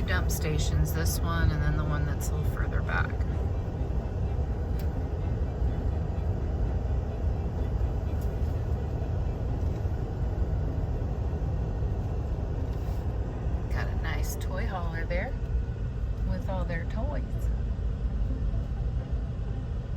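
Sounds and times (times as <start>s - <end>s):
vehicle engine and road rumble: 0.0s - 19.9s.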